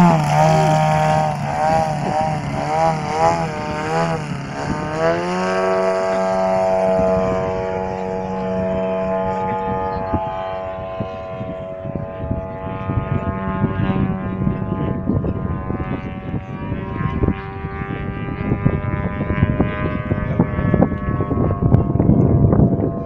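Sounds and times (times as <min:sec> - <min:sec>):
model airplane motor whine: 0:00.0 - 0:23.0
wind rumble on microphone: 0:00.0 - 0:23.0.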